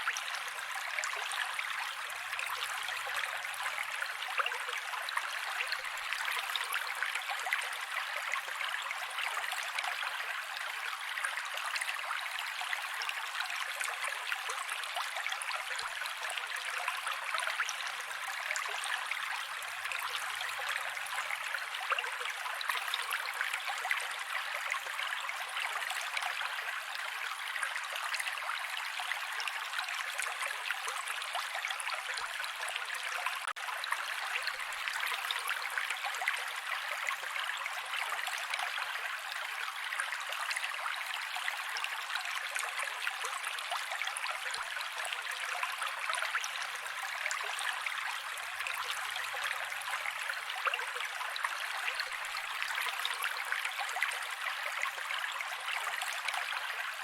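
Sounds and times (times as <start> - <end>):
mountain creek flowing: 0.0 - 57.0.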